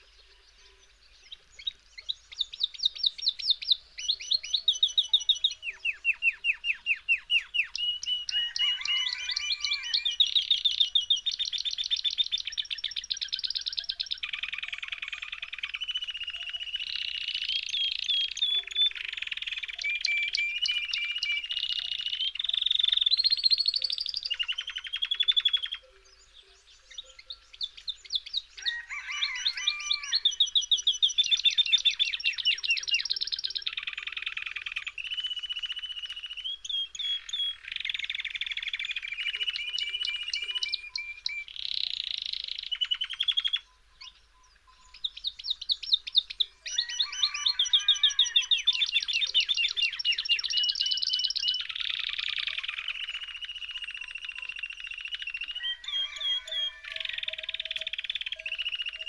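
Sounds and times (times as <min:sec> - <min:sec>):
songbird trilling and chirping: 0:00.0 - 0:59.0.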